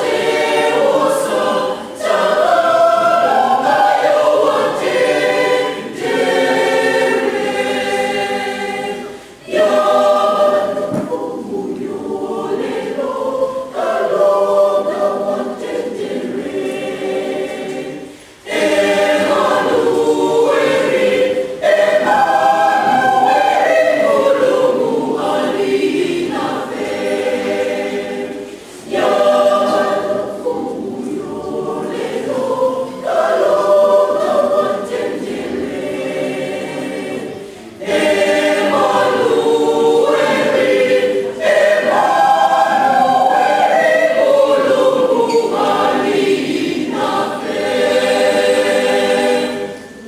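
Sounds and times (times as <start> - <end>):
mixed choir singing a hymn: 0.0 - 50.0.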